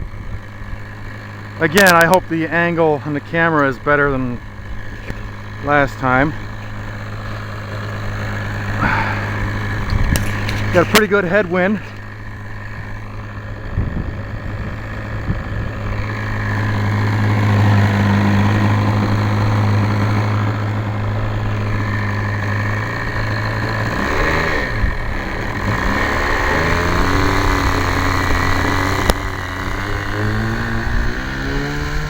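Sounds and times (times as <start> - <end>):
model plane engine running: 0.0 - 32.0.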